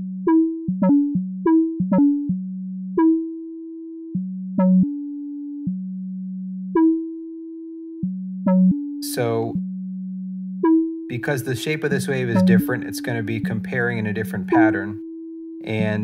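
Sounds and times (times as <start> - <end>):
synthesizer plucked notes: 0.0 - 9.7, 10.6 - 16.0.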